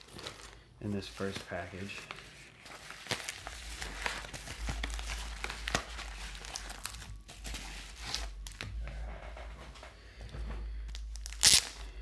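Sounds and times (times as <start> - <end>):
plastic wrapping crinkling: 0.0 - 8.7, 10.9 - 12.0.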